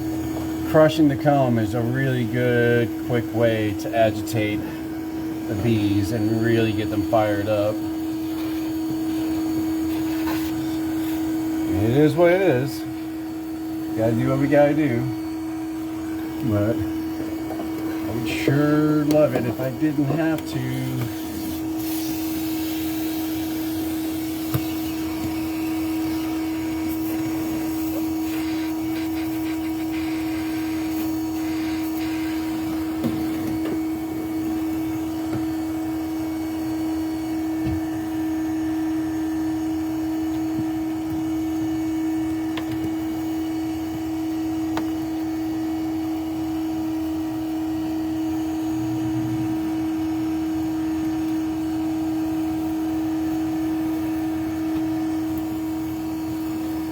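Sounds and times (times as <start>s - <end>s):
vacuum motor humming: 0.0s - 56.9s.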